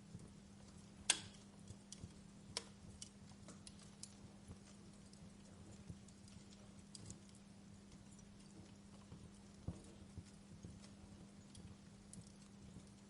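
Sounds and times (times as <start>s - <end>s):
faint low hum: 0.0s - 13.0s
wood fire crackling: 0.0s - 13.0s.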